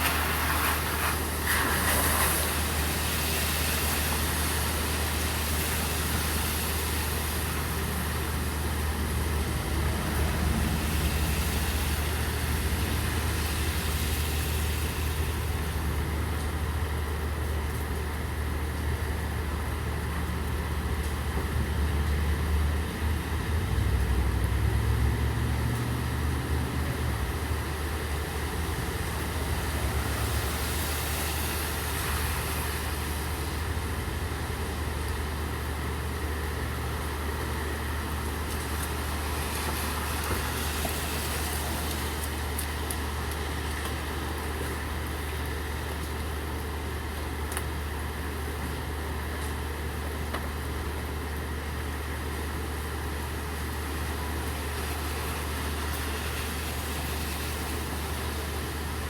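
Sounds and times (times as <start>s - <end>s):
rain hiss: 0.0s - 59.0s
vehicle engine rumble: 0.0s - 59.0s.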